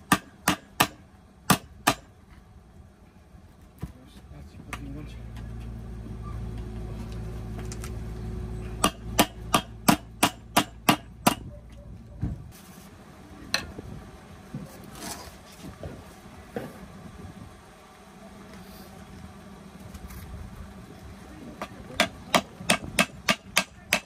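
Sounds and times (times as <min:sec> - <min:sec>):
low hum: 0:01.0 - 0:23.3.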